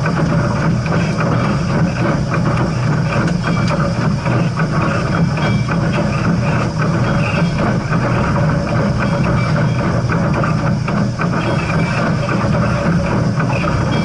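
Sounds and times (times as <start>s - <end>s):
steam train rumble with rattling: 0.0s - 14.0s.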